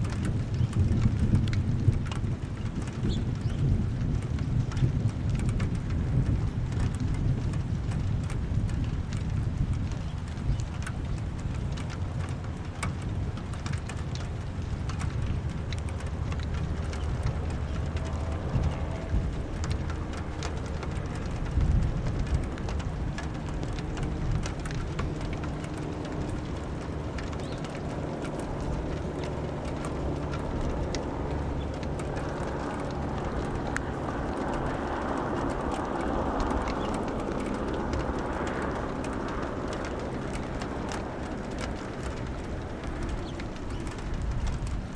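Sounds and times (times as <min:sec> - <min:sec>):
low thunder rumble: 0:00.0 - 0:44.9
rain falling: 0:00.0 - 0:44.9
raindrop taps: 0:00.0 - 0:44.9.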